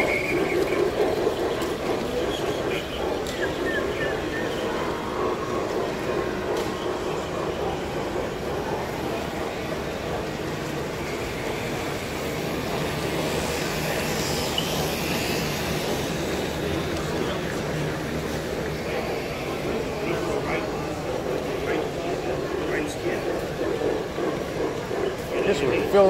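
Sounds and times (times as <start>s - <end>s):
background hubbub: 0.0s - 26.0s
model train running on track: 0.0s - 26.0s.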